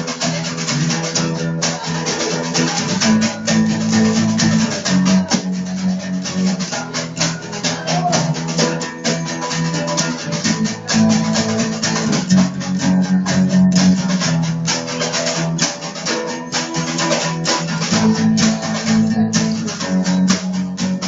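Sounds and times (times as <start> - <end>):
fast guitar music: 0.0 - 21.0.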